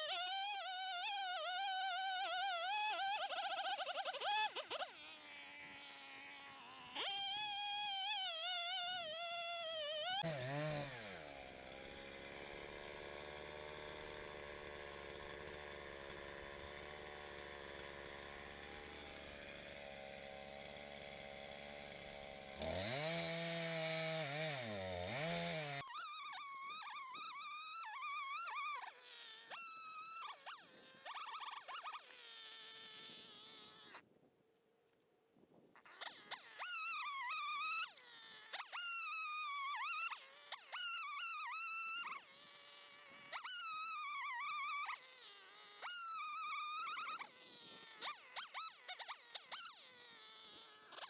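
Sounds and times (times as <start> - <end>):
chainsaw cutting and idling: 0.0 - 34.0, 35.8 - 51.0.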